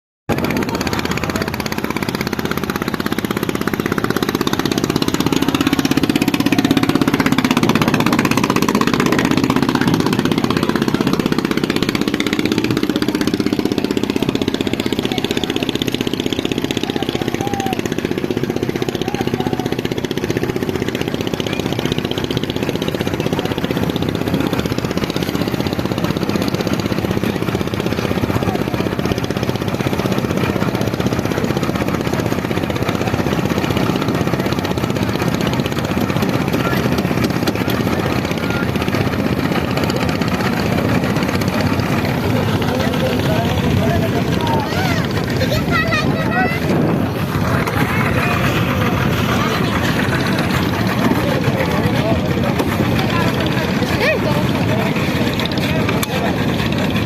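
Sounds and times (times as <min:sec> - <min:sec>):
speed boat engine running: 0:00.3 - 0:57.0.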